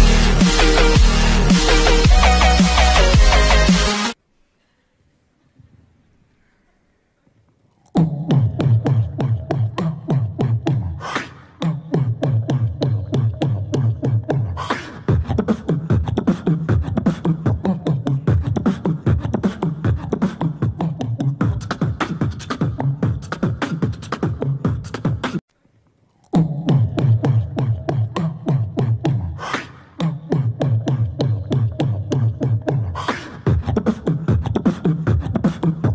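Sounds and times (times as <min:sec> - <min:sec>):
beatboxing: 0:00.0 - 0:04.2, 0:07.7 - 0:25.5, 0:26.1 - 0:35.9.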